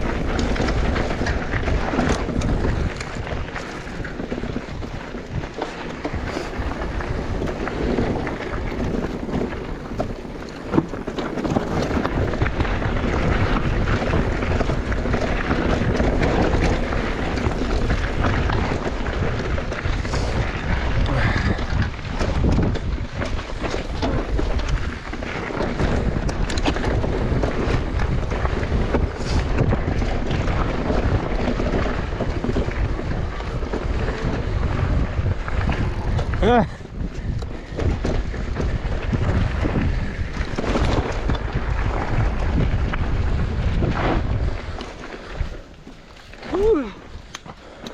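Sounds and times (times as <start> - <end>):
bike rattling and knocking: 0.0 - 47.9
tyres rumbling on rough trail: 0.0 - 47.9
wind buffeting microphone: 0.0 - 47.9.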